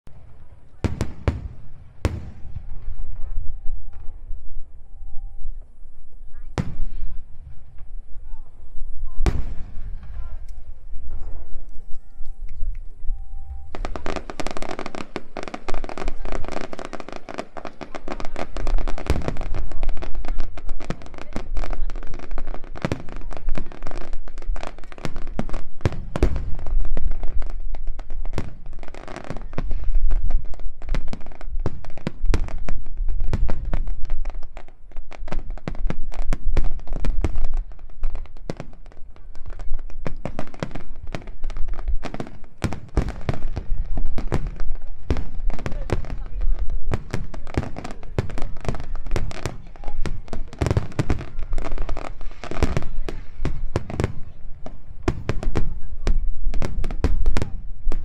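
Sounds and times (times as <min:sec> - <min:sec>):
fireworks booming and crackling: 0:00.1 - 0:58.0.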